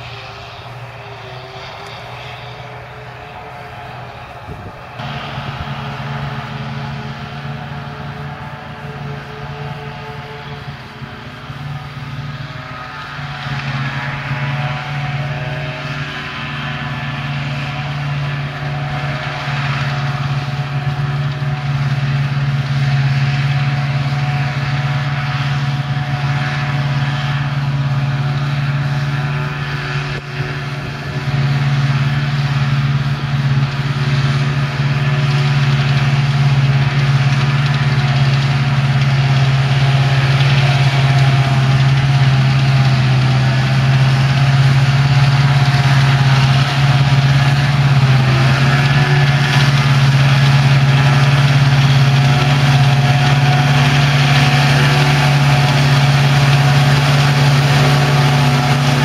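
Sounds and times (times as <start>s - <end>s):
diesel engines droning: 0.0s - 59.0s
harvester chopping: 0.0s - 59.0s.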